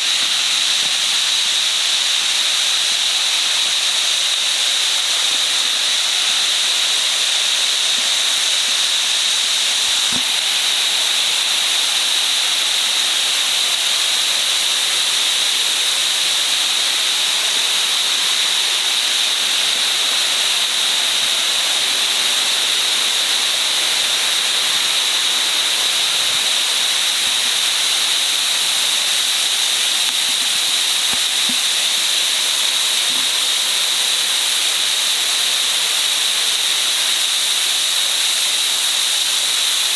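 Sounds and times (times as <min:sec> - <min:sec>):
waterfall hissing: 0:00.0 - 0:39.9.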